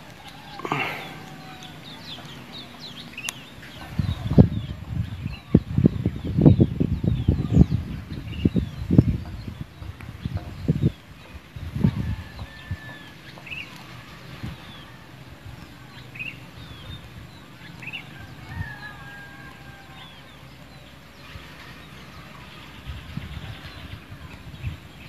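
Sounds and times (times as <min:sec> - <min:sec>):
birds chirping and whistling: 0:00.0 - 0:25.0
faint outdoor hiss: 0:00.0 - 0:25.0.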